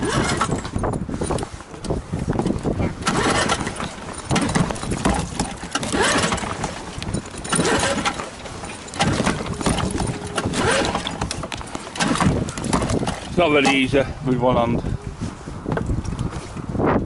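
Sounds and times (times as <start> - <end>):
recoil cord being yanked: 0.0 - 14.0.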